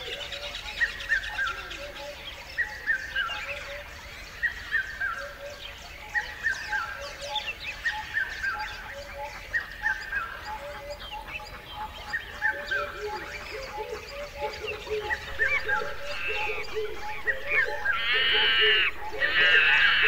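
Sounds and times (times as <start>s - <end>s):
lower repeated bird notes: 0.0s - 20.0s.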